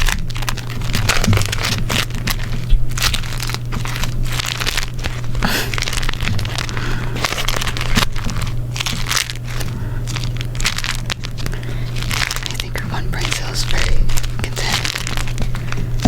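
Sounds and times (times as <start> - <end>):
steady low hum: 0.0 - 16.0
wrap crinkling and crackling: 0.0 - 16.0.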